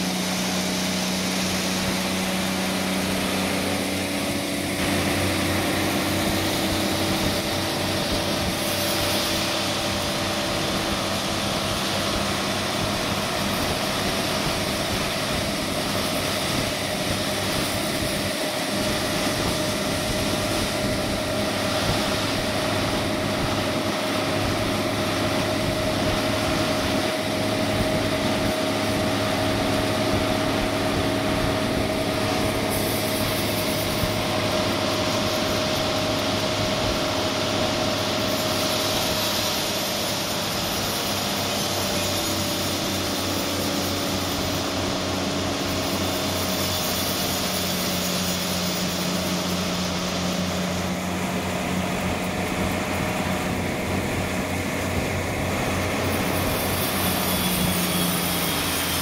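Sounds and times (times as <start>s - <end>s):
bright hiss: 0.0s - 59.0s
sawmill machine hum and whine: 0.0s - 59.0s.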